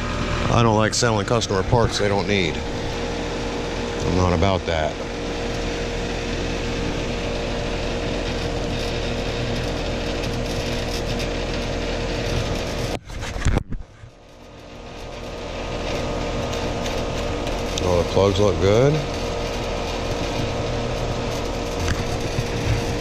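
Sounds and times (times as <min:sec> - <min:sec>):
heat pump unit running: 0:00.0 - 0:23.0.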